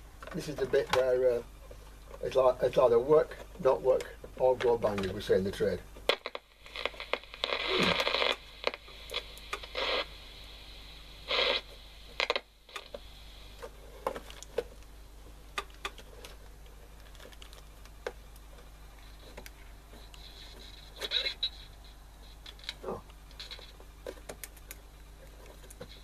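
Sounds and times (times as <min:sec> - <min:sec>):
low steady hum: 0:00.0 - 0:26.0
radio hiss and crackle: 0:00.0 - 0:26.0.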